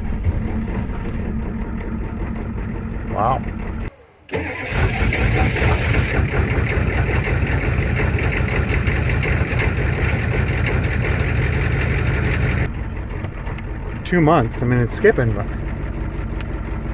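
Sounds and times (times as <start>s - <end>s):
diesel engine idling and misfiring: 0.0s - 16.9s.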